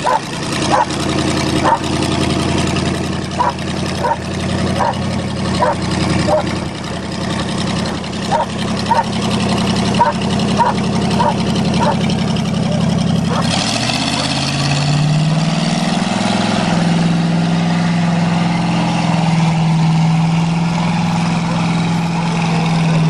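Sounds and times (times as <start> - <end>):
wheel loader engine running: 0.0 - 23.0.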